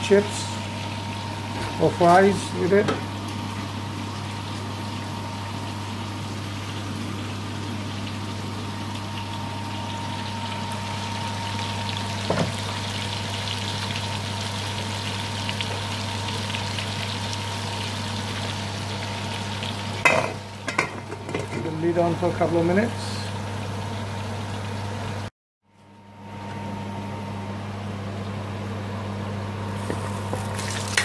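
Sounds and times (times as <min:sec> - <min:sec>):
chicken sizzling in a frying pan: 0:00.0 - 0:25.3, 0:29.6 - 0:31.0.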